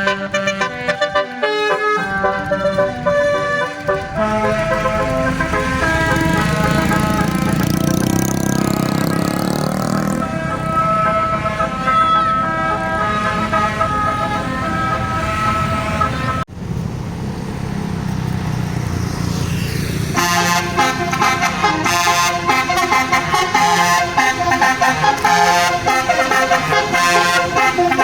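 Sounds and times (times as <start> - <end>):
multi-tone musical air horn: 0.0 - 16.5, 20.1 - 28.0
bus engine running: 0.0 - 28.0
road noise: 0.0 - 28.0.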